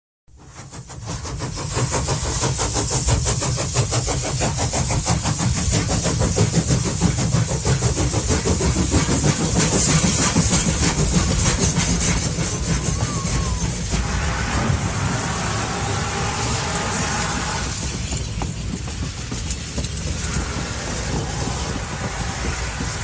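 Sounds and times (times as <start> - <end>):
train passing: 0.3 - 23.0
high hiss: 0.6 - 23.0
wheels clattering on rails: 0.7 - 23.0.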